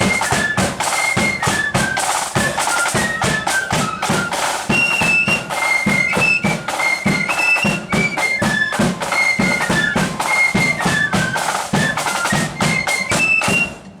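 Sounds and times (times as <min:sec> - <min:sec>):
marching band playing: 0:00.0 - 0:14.0
steady drum beats: 0:00.0 - 0:14.0.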